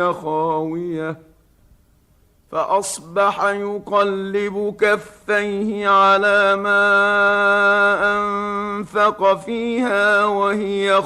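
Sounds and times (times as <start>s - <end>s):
man chanting melodically: 0.0s - 1.3s, 2.5s - 11.0s.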